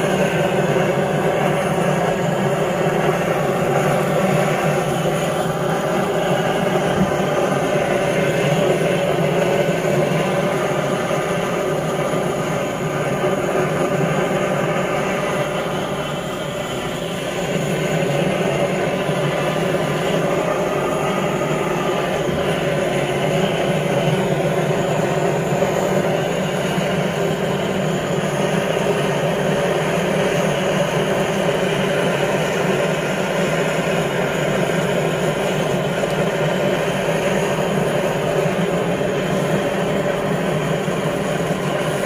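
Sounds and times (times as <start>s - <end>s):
blowtorch flame rushing: 0.0s - 42.0s.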